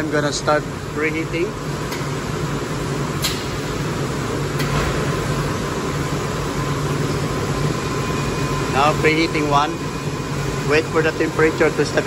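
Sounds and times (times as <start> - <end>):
machinery hum and whir: 0.0 - 12.0.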